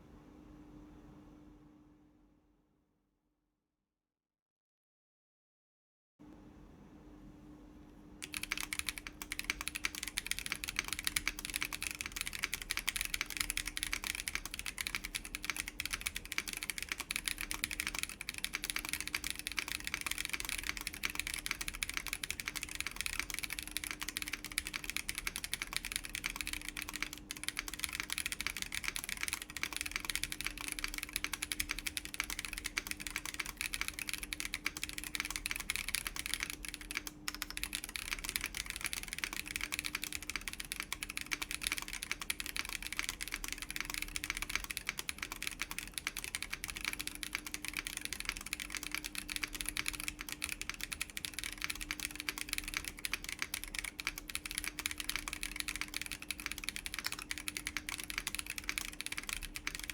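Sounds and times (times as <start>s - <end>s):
mechanical keyboard typing: 8.2s - 59.9s.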